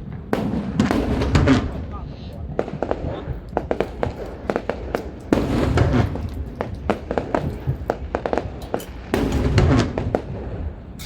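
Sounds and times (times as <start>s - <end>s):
fireworks booming: 0.0s - 11.0s
fireworks cracking and popping: 0.0s - 11.0s.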